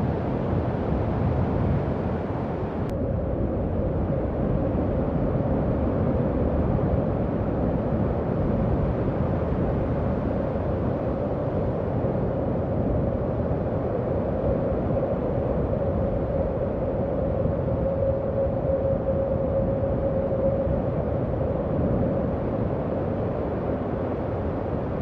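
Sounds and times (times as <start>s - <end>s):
howling wind: 0.0s - 25.0s.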